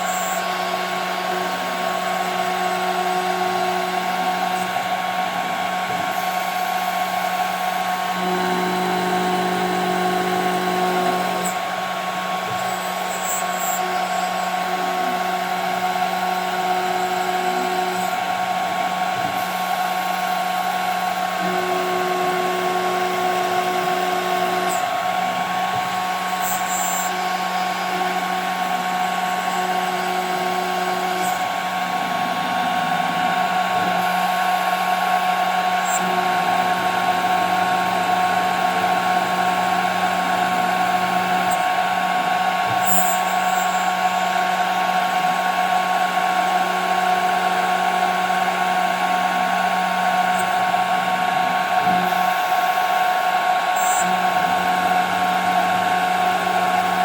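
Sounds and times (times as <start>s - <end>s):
low motor hum: 0.0s - 57.0s
router spindle whining: 0.0s - 57.0s.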